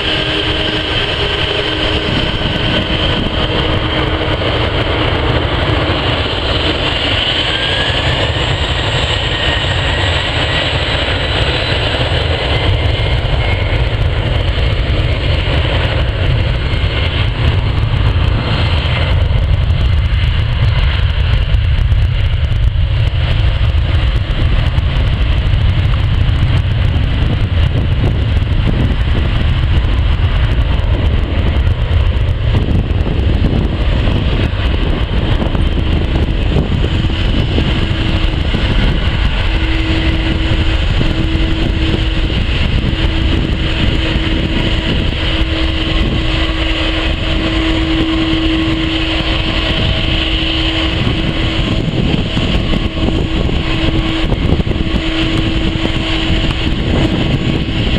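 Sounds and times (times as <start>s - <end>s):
high whine: 0.0s - 57.9s
hum: 0.0s - 57.9s
jet engines rumbling: 0.0s - 57.9s.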